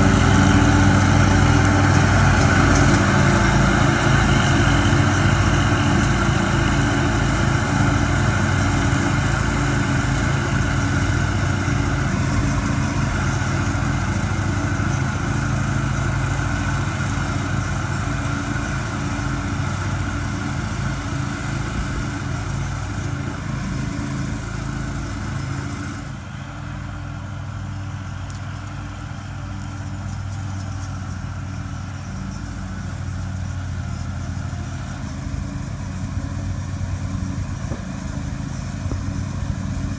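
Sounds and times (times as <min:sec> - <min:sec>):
brush mower engine running: 0:00.0 - 0:39.9
towing vehicle engine: 0:00.0 - 0:39.9.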